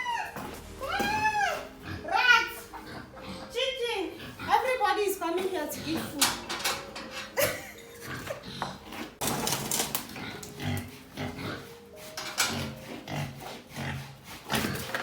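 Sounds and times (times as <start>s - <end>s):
pigs grunting: 0.0s - 9.2s, 10.0s - 15.0s.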